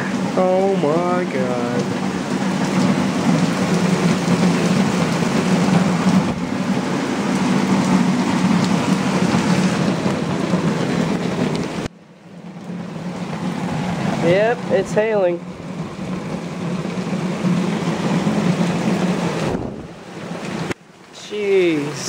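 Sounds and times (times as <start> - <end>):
heavy rain and hail pelting: 0.0 - 22.0.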